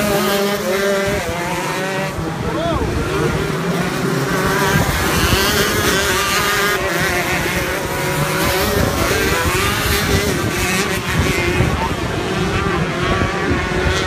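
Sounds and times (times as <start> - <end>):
kart engines racing: 0.0 - 14.0.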